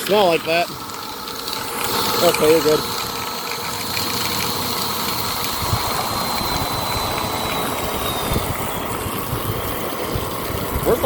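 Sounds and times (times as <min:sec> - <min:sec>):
water poured into vacuum: 0:00.0 - 0:11.0
vacuum cleaner motor running: 0:01.6 - 0:11.0.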